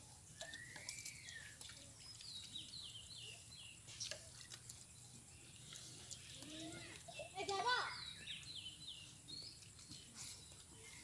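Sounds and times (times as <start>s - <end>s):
birds calling: 0.2s - 11.0s.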